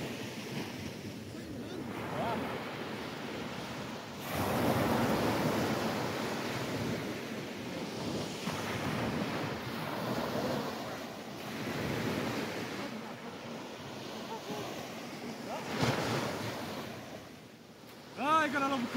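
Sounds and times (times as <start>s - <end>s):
small waves breaking on sand: 0.0s - 18.9s.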